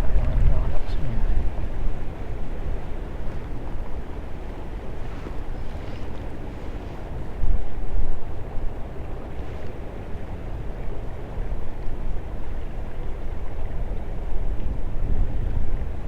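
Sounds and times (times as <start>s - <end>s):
creek rushing: 0.0s - 16.0s
wind buffeting microphone: 0.0s - 16.0s.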